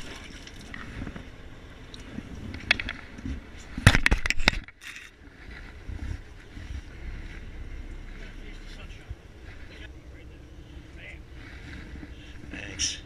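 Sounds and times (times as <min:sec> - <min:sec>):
low rumble of wind and boat: 0:00.0 - 0:13.0.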